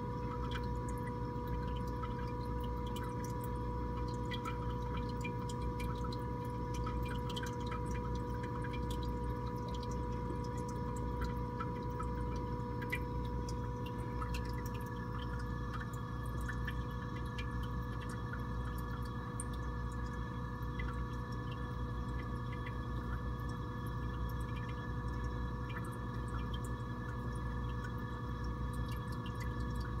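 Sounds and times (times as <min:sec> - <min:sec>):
pump hum with whine: 0:00.0 - 0:30.0
tiny drips and pops: 0:00.0 - 0:30.0
water trickling: 0:00.0 - 0:30.0.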